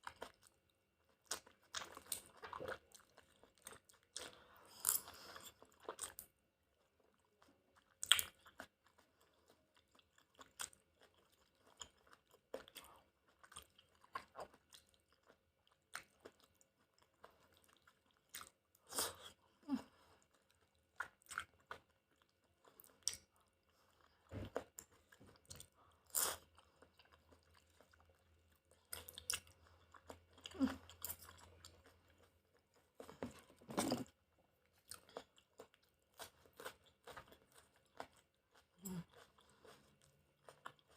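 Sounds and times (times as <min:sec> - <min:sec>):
chewing: 0:00.0 - 0:40.9.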